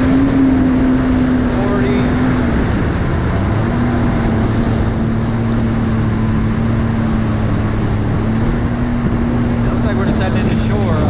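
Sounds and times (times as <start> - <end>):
jet ski engine droning: 0.0 - 11.0
wind and water rushing: 0.0 - 11.0.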